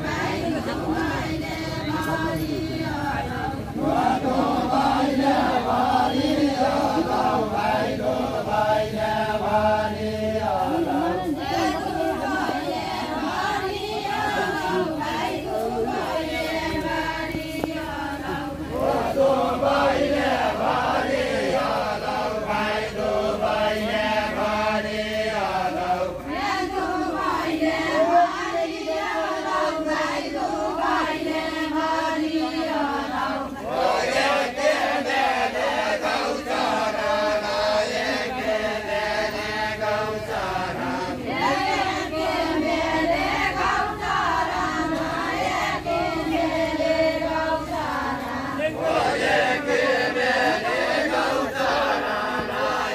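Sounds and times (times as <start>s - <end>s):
group singing unaccompanied: 0.0s - 52.9s.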